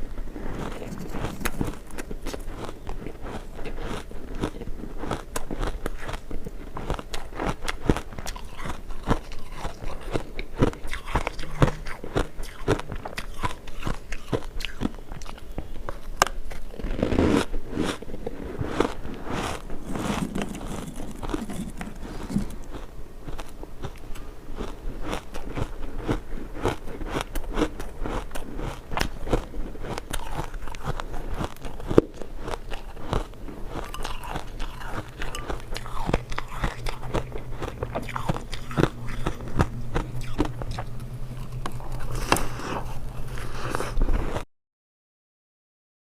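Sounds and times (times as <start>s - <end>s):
chewing hard ice chunks: 0.5s - 15.4s, 16.2s - 24.0s, 24.6s - 44.4s.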